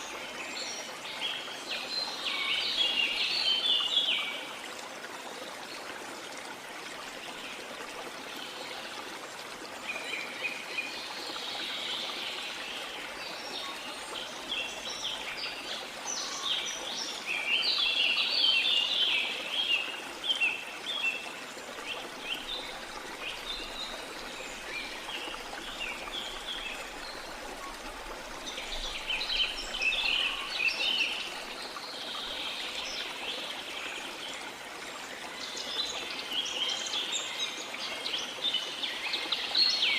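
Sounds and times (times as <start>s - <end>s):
forest birds chirping: 0.0s - 5.9s, 9.6s - 39.9s.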